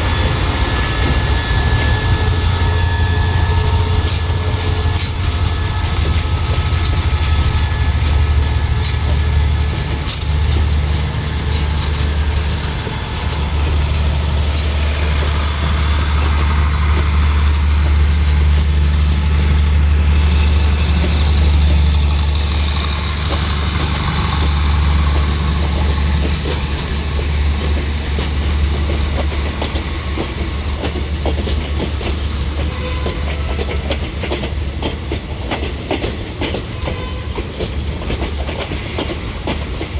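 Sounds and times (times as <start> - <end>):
diesel train engine drone: 0.0 - 39.9
train hiss: 0.0 - 39.9.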